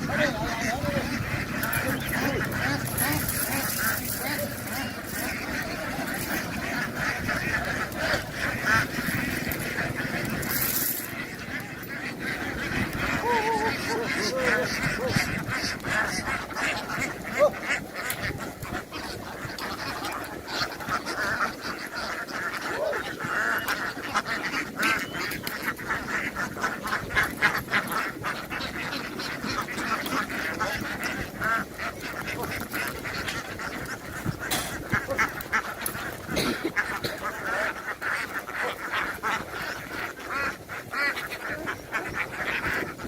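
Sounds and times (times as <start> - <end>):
flock of ducks quacking: 0.0 - 43.0.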